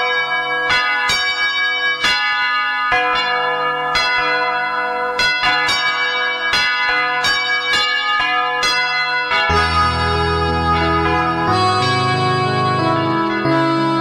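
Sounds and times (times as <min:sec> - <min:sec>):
church bells ringing a peal: 0:00.0 - 0:14.0.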